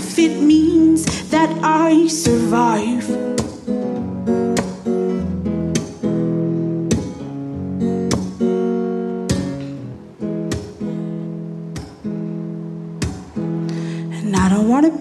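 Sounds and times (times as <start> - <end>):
acoustic guitar strummed chords: 0.0 - 14.9.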